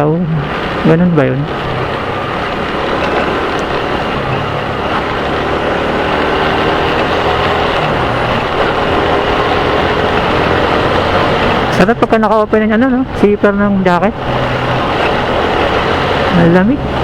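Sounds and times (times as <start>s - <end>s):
motorcycle engine hum: 0.0s - 17.0s
wind and road noise: 0.0s - 17.0s.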